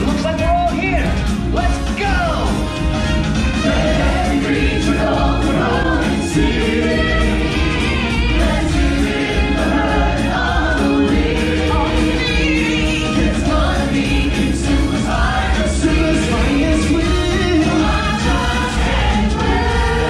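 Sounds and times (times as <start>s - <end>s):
instrumental backing music: 0.0s - 20.0s
choir singing: 3.4s - 20.0s.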